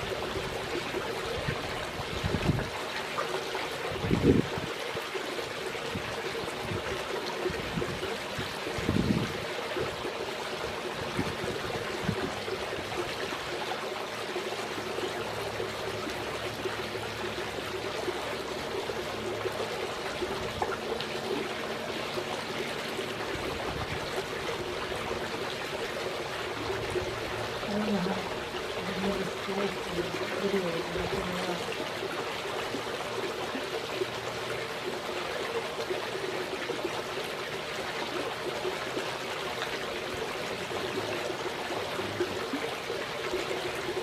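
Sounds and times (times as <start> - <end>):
trickling water: 0.0 - 44.0.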